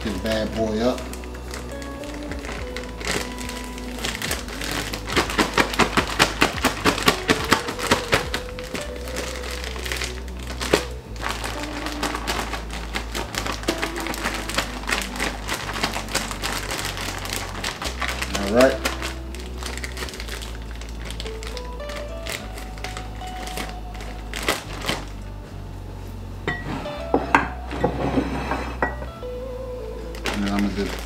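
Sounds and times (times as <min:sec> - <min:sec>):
plastic bag of flour being shaken: 0:00.0 - 0:25.2, 0:30.2 - 0:31.0
background music: 0:00.0 - 0:31.0.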